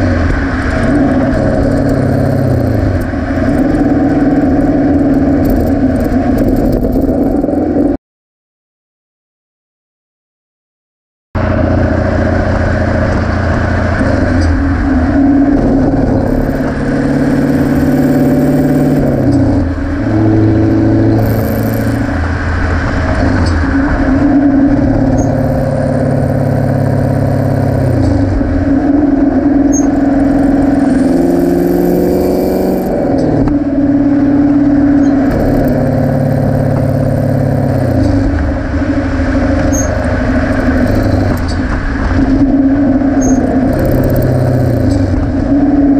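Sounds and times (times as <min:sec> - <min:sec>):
car engine through exhaust: 0:00.0 - 0:08.0, 0:11.4 - 0:45.9.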